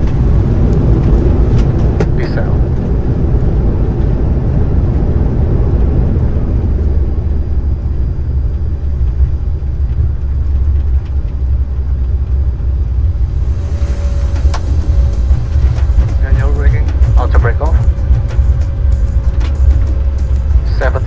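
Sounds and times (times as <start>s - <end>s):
jet engines in reverse thrust: 0.0s - 21.0s
wheels rumbling on runway: 0.0s - 21.0s.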